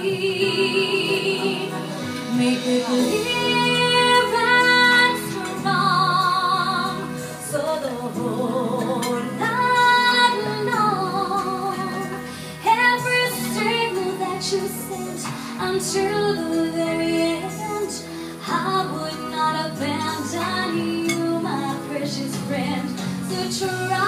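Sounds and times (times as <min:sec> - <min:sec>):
woman singing with vibrato: 0:00.0 - 0:24.0.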